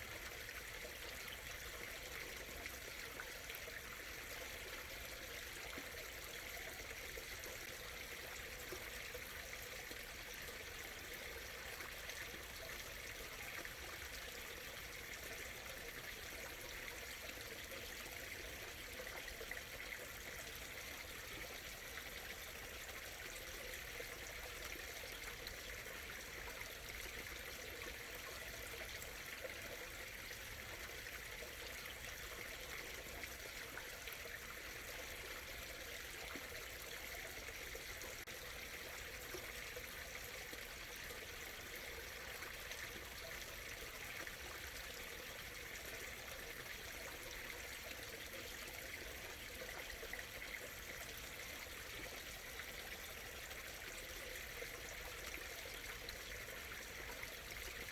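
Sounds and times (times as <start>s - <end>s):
stream trickling over rocks: 0.0s - 57.9s.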